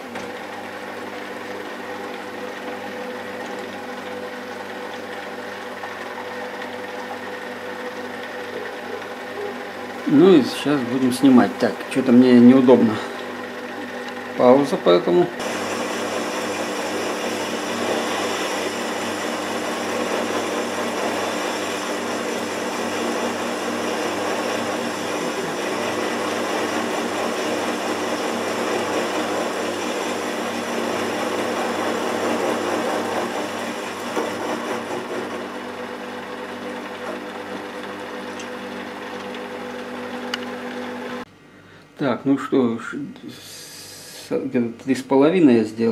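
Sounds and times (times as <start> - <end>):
lathe tool cutting metal: 0.0 - 41.2
lathe motor hum: 0.0 - 41.3.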